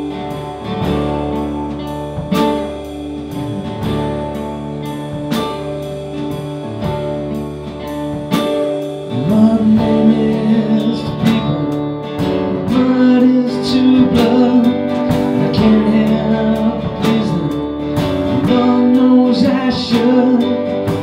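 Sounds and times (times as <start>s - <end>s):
acoustic guitar strumming: 0.0s - 21.0s
steady beat: 0.0s - 21.0s.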